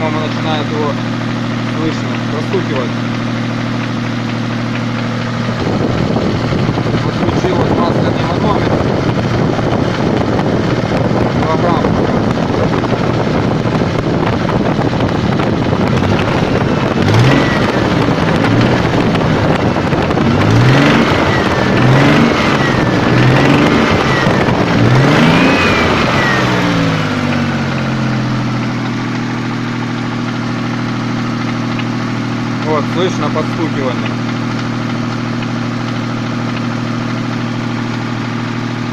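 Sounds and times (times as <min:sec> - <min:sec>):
car engine revving and idling: 0:00.0 - 0:38.9
engine knock: 0:00.0 - 0:38.9.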